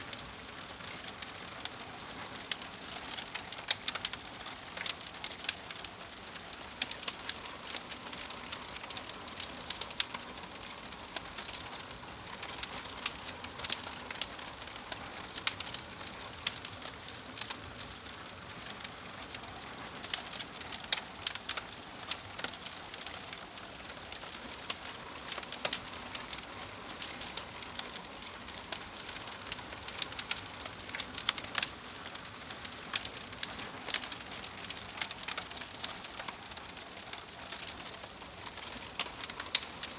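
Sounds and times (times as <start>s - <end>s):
soft fire hiss: 0.0s - 39.9s
fire pops and snaps: 2.4s - 18.0s, 18.6s - 39.9s.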